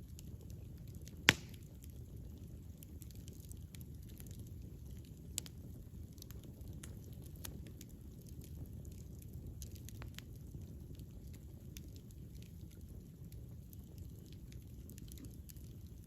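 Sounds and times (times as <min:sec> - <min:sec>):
campfire rumbling: 0:00.0 - 0:16.0
fire crackles and pops: 0:00.0 - 0:16.0.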